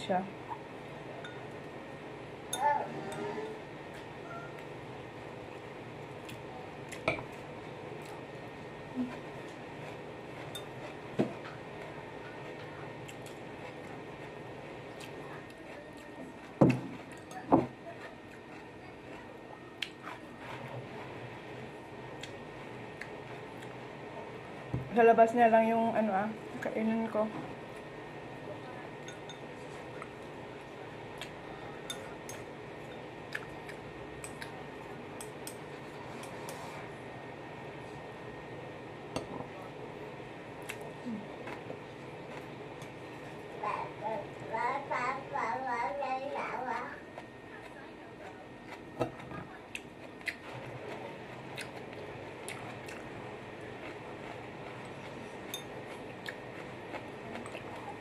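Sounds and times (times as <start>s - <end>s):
low background hum: 0.0s - 58.0s.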